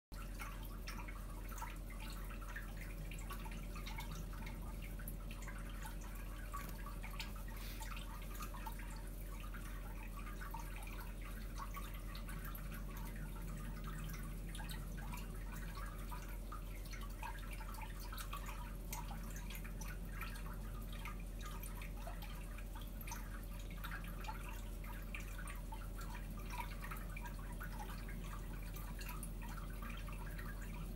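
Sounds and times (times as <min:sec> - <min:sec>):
constant low hum: 0:00.1 - 0:30.9
water trickling and dripping: 0:00.1 - 0:30.9.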